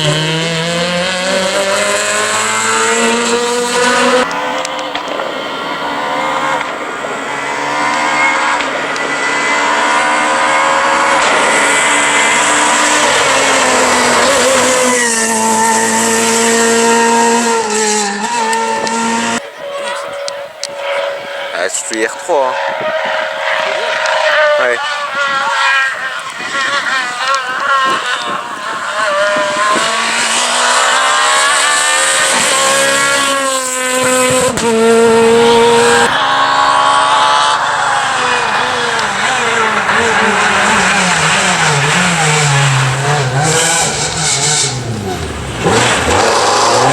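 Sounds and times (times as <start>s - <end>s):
rally car engine revving high: 0.0s - 46.9s.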